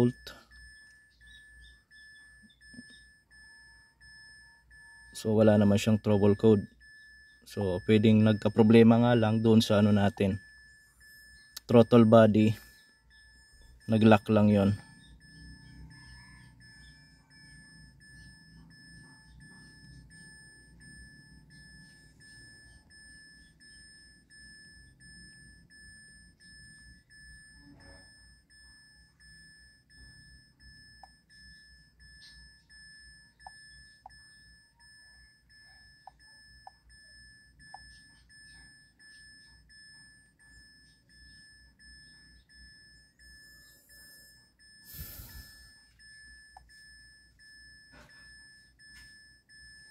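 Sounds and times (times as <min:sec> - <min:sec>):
high-pitched electronic tone: 0:00.0 - 0:49.9.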